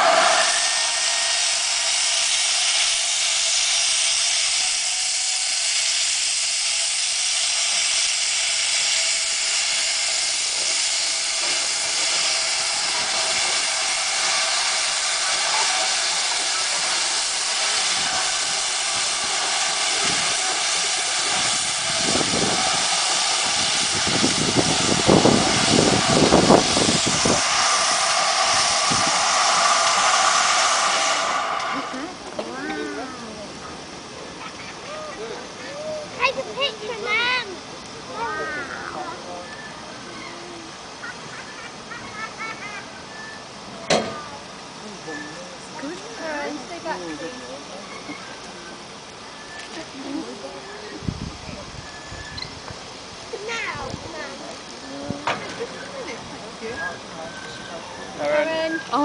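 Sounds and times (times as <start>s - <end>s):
steam hissing from locomotive: 0.0s - 59.0s.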